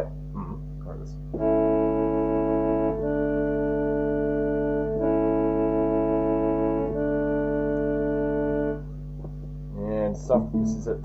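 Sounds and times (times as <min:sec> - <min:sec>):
steady low hum: 0:00.0 - 0:11.0
electronic keyboard chords: 0:01.3 - 0:09.4, 0:10.2 - 0:11.0.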